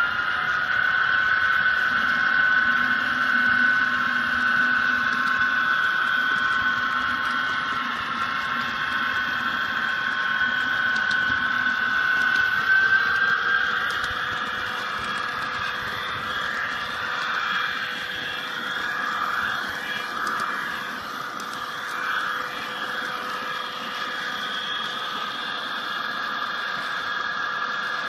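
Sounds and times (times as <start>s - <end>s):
model train motor whine: 0.0s - 28.0s
wheels rumbling on rail: 0.0s - 28.0s.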